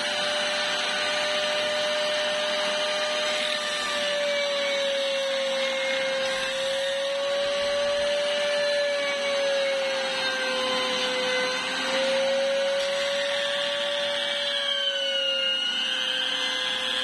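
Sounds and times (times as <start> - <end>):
disc sander motor whine: 0.0 - 17.0.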